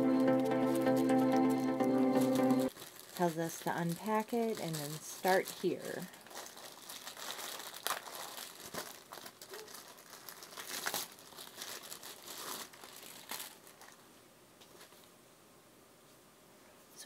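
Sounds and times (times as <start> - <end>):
packaging crinkling: 0.1 - 14.1.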